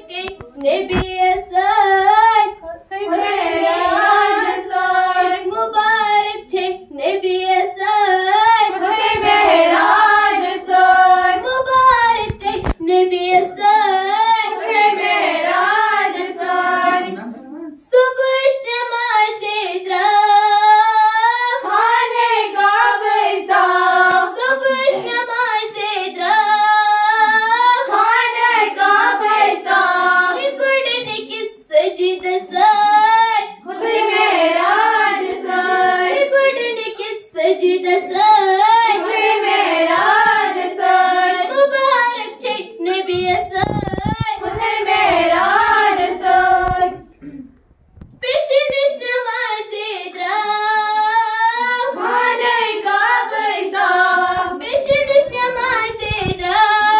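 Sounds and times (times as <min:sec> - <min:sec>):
girls singing in unison: 0:00.0 - 0:47.4, 0:48.2 - 0:56.9.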